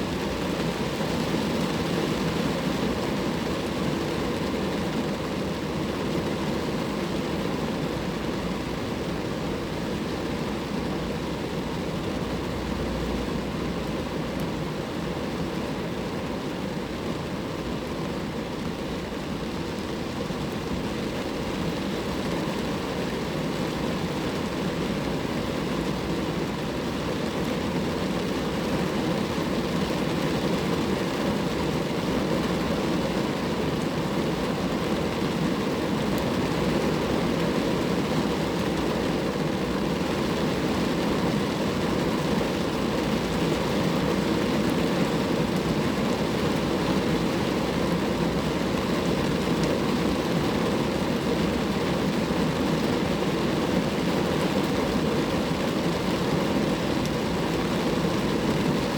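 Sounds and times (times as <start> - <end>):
rain falling on a car: 0.0 - 58.9.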